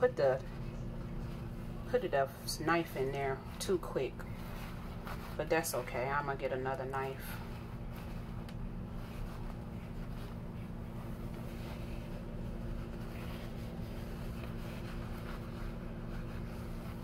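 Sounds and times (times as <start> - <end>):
paper towels rustling: 0.0 - 17.0
steady low hum: 0.0 - 17.0.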